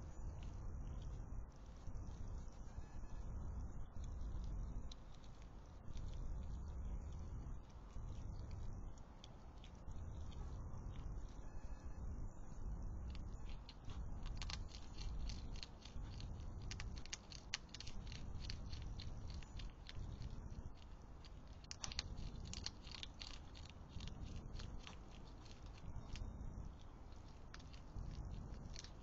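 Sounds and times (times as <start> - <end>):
hedgehogs crunching food: 0.0 - 11.8, 12.5 - 29.0
low background hum: 0.0 - 29.0.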